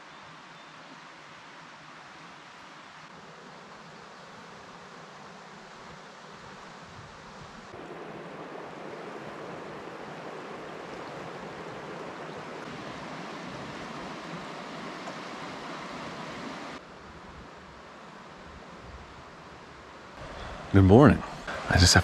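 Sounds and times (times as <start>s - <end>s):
river flowing over riffle: 0.0s - 22.0s.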